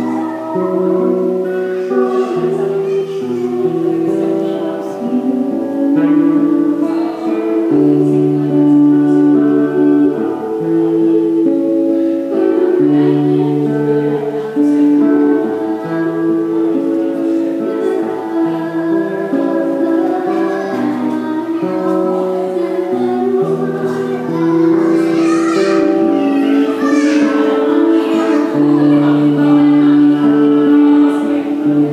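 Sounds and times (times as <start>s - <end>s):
acoustic guitar: 0.0s - 31.9s
woman singing slowly: 0.0s - 31.9s.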